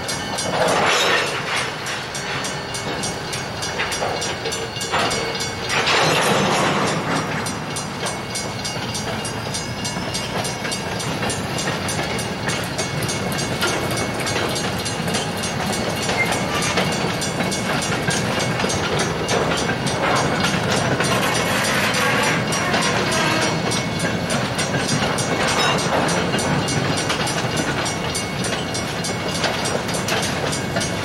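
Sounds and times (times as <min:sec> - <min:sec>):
freight wagon wheels clicking on rails: 0:00.0 - 0:31.0.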